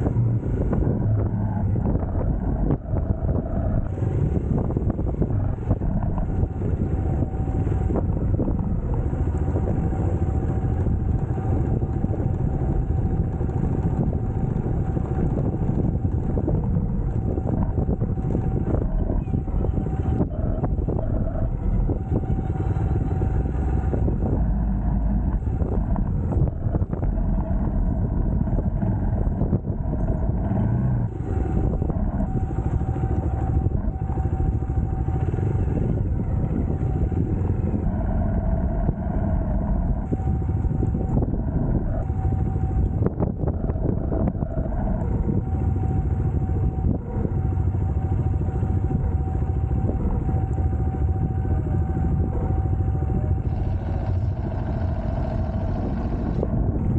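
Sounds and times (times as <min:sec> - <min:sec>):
motorcycle engine rumbling: 0:00.0 - 0:56.9.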